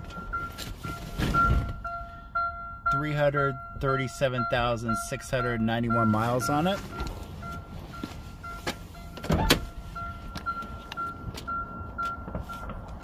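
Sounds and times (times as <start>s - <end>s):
car warning chime beeping: 0.0s - 13.0s.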